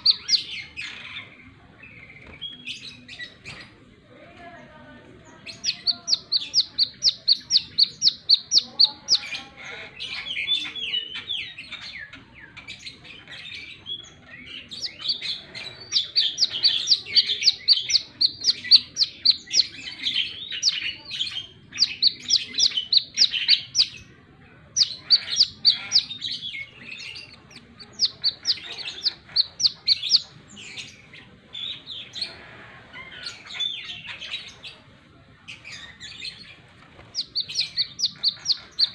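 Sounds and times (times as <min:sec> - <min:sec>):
sunbird singing: 0:00.0 - 0:03.5, 0:05.2 - 0:32.4, 0:35.6 - 0:38.9.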